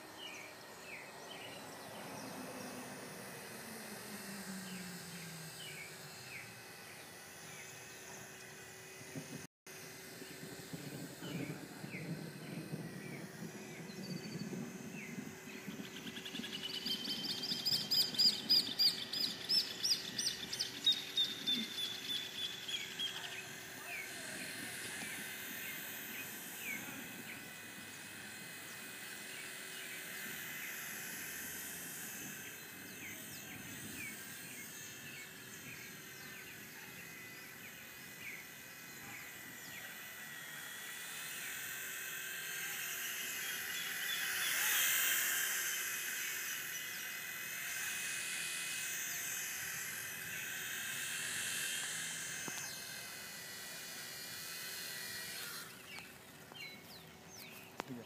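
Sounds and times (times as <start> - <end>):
toy helicopter rotor whine: 0.0 - 58.0.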